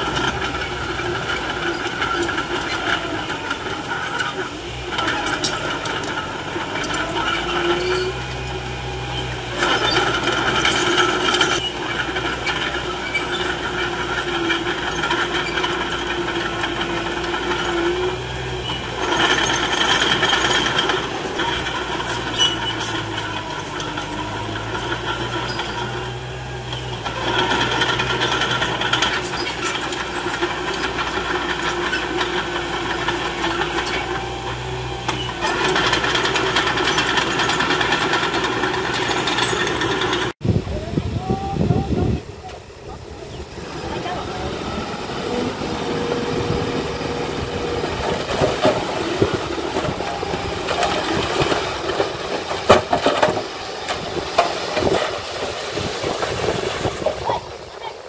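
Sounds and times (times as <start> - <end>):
metallic track clatter: 0.0 - 40.4, 42.2 - 58.0
bulldozer diesel engine: 0.0 - 58.0.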